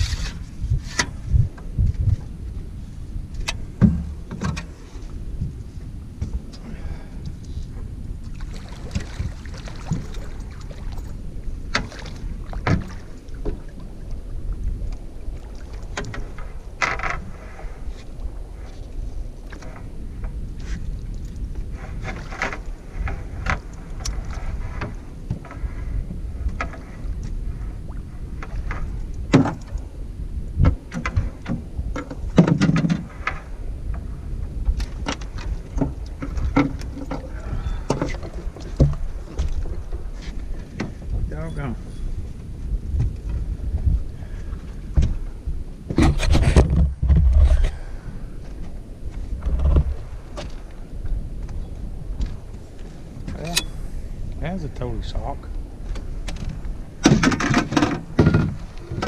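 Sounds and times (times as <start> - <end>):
low rumbling wind: 0.0 - 59.0
water noise: 0.0 - 59.0.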